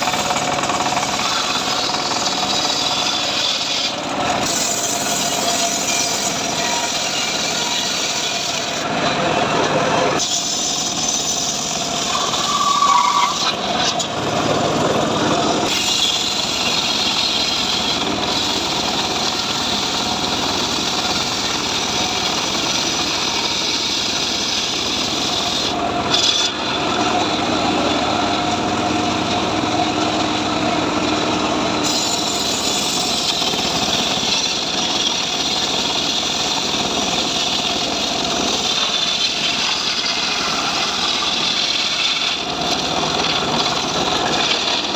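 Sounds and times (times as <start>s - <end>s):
engine-driven sawmill sawing wood: 0.0s - 44.9s.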